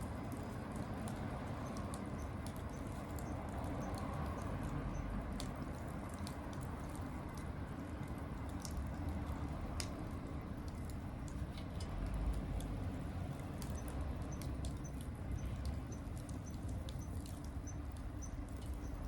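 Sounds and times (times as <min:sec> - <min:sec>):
wood crackling and popping: 0:00.1 - 0:19.0.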